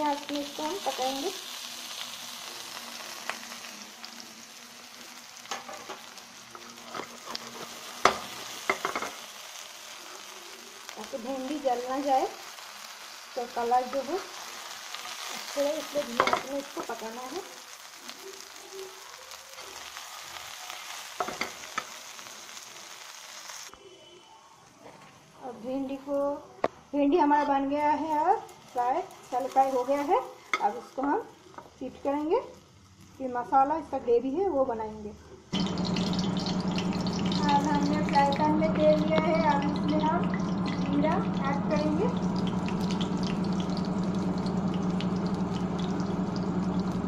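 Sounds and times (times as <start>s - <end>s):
okra sizzling in oil: 0.0s - 24.0s, 24.6s - 47.0s.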